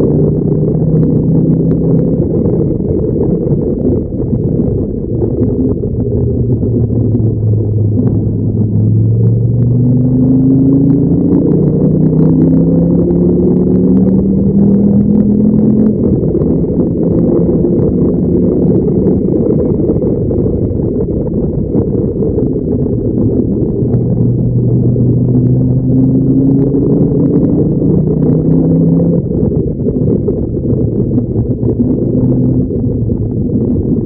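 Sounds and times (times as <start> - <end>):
car engine at full throttle: 0.0 - 34.0
rush of car at speed: 0.0 - 34.0.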